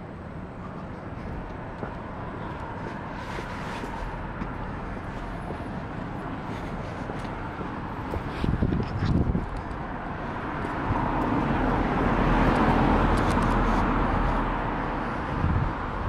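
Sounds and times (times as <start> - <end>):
distant traffic hum: 0.0 - 16.0.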